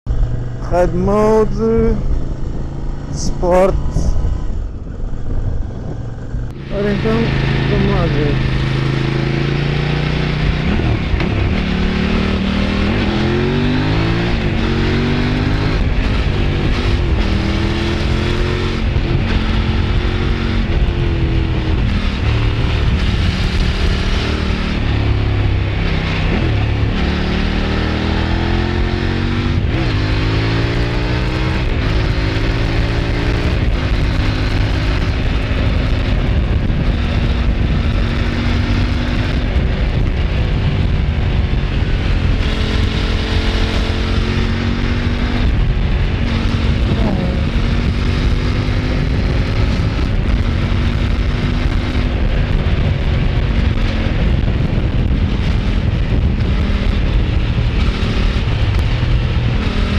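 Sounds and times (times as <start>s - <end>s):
motorcycle engine accelerating: 1.8s - 3.2s, 3.8s - 59.9s
wind noise on microphone: 1.8s - 7.5s, 10.3s - 27.0s, 28.0s - 59.9s.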